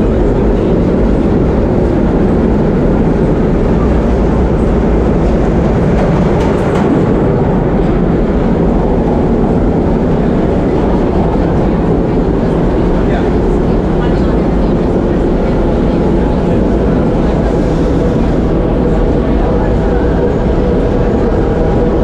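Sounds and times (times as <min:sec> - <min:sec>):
subway train wheels rumbling: 0:00.0 - 0:22.0.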